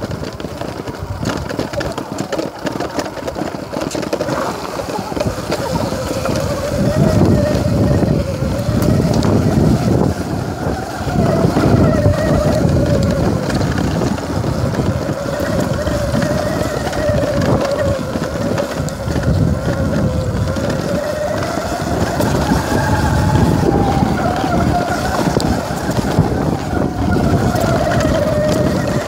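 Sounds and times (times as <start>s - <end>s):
tyre rumble over dirt: 0.0s - 29.0s
wind buffeting microphone: 0.0s - 29.0s
steady wavering whine: 1.3s - 29.0s.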